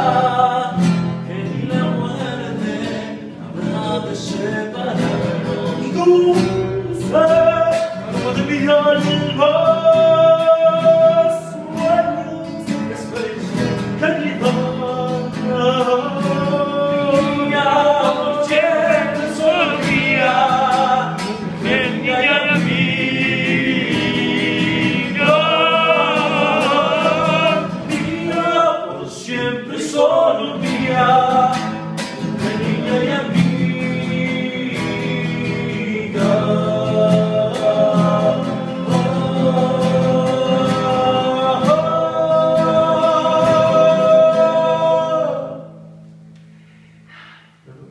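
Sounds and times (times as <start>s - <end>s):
men singing: 0.0s - 45.8s
strummed acoustic guitar: 0.0s - 47.6s.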